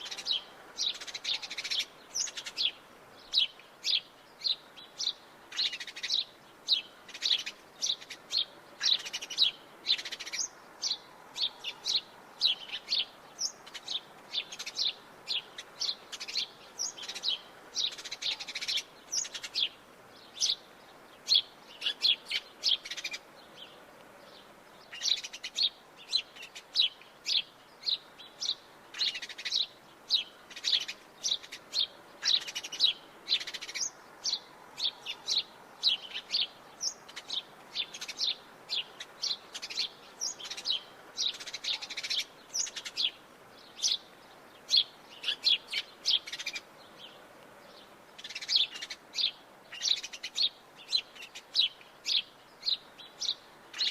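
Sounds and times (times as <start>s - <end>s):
sparrow chirping: 0.0s - 53.9s.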